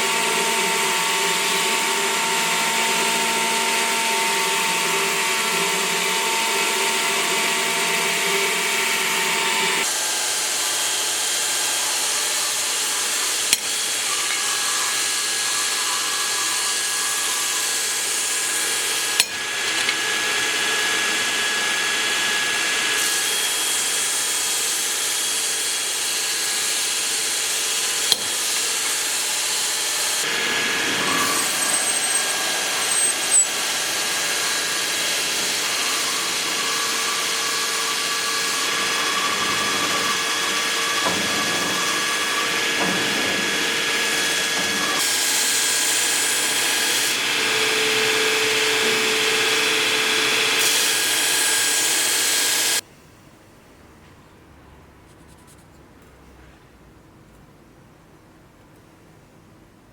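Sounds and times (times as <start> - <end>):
power tool on steel: 0.0 - 52.8.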